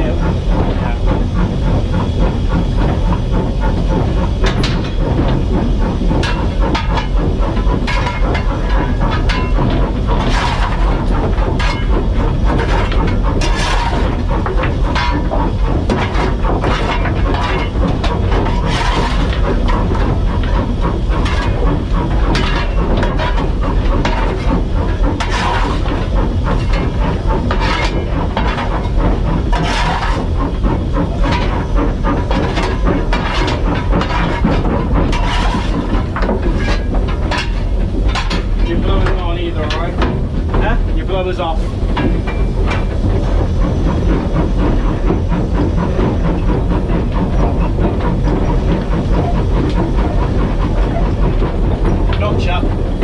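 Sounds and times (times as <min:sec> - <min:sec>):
steam locomotive rumbling and hissing: 0:00.0 - 0:53.0.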